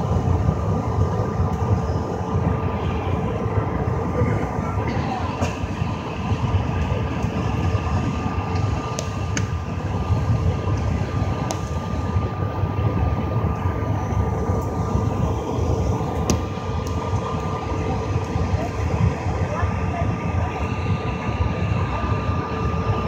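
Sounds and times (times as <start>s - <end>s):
cabin low rumble: 0.0s - 23.0s
jet engines whining: 0.0s - 23.0s.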